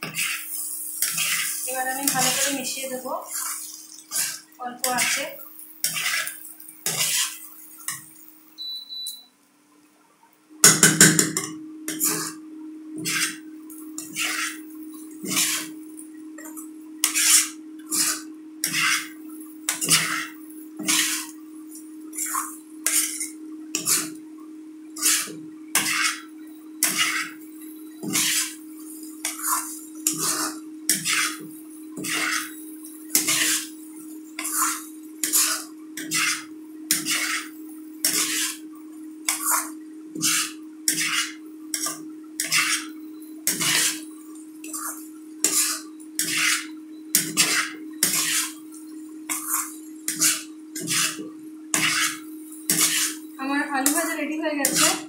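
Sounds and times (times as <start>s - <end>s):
spatula scraping frying pan: 0.0s - 8.3s, 10.9s - 12.4s, 13.0s - 15.8s, 16.4s - 24.2s, 25.0s - 55.0s.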